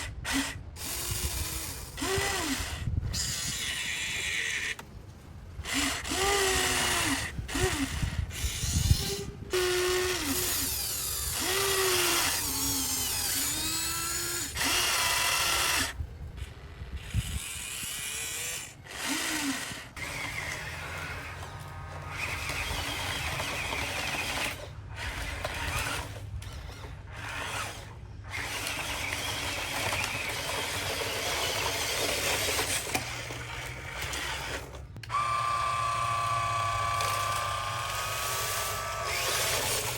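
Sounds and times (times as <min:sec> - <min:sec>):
small electric motors whining: 0:00.0 - 0:04.9, 0:05.6 - 0:39.9.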